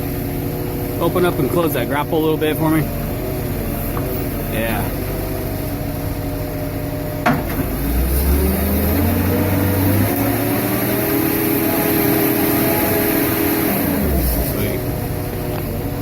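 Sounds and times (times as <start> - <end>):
baler engine running: 0.0 - 16.0
hydraulics working grapple: 0.0 - 16.0.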